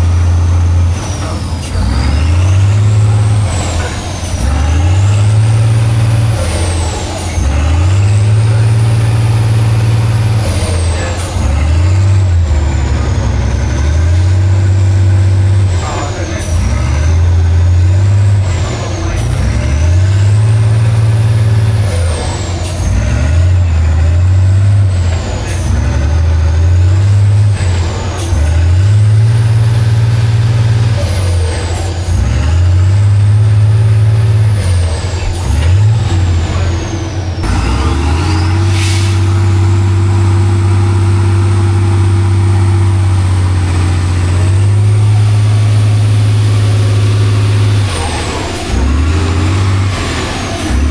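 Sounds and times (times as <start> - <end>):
diesel truck engine revving: 0.0 - 50.9.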